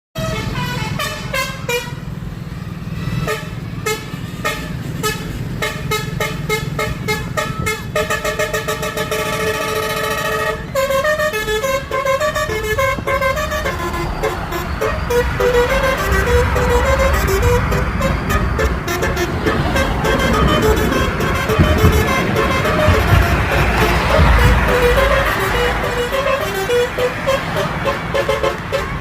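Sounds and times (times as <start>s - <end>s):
tram horn musical toots: 0.2s - 29.0s.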